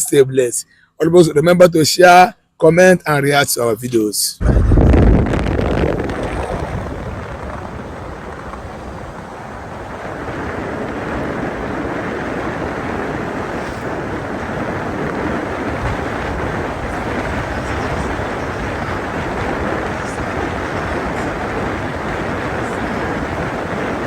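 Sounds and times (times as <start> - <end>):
vehicle rumble on road: 4.4 - 24.0
wind rushing over microphone: 4.4 - 24.0.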